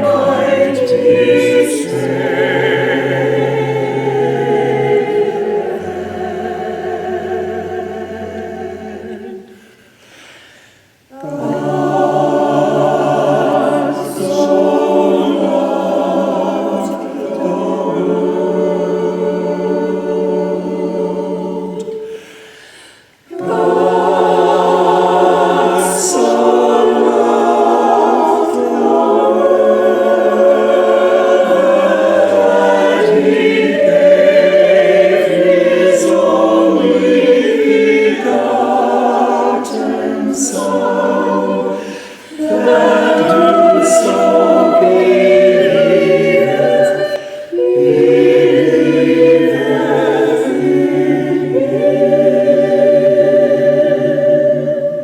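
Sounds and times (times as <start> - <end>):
church choir singing a cappella: 0.0 - 55.0.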